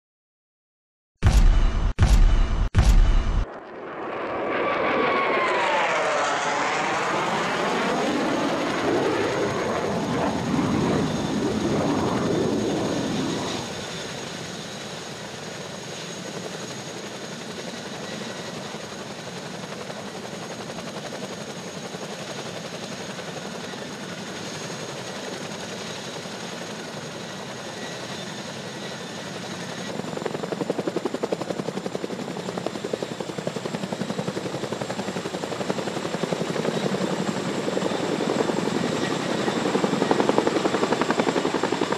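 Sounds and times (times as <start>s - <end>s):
helicopter engine whine: 1.2s - 41.9s
helicopter rotor noise: 1.2s - 41.9s.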